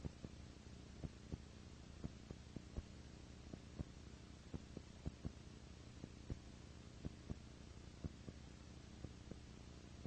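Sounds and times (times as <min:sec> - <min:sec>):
recording hiss and hum: 0:00.0 - 0:10.0.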